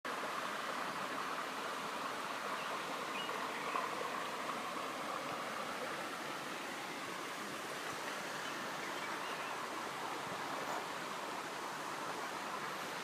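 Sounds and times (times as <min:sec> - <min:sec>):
stream flowing: 0:00.1 - 0:13.0.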